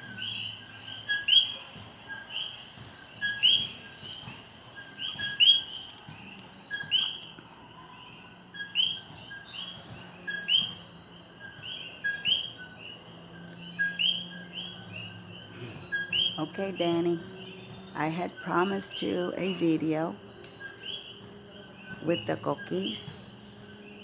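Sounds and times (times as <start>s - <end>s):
frogs calling in chorus: 0.0s - 24.0s
steady high-pitched hum: 0.0s - 24.0s.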